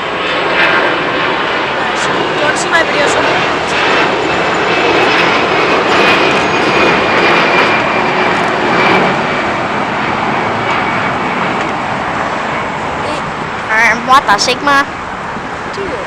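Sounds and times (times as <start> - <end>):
high engine whine: 0.0 - 16.0
jet airliner engines roaring: 0.0 - 16.0.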